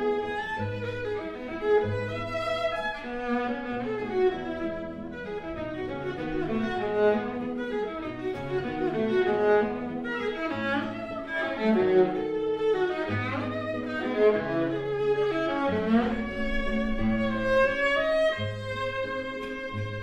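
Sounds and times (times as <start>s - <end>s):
bowed violin melody: 0.0s - 20.0s
classical guitar: 0.0s - 20.0s.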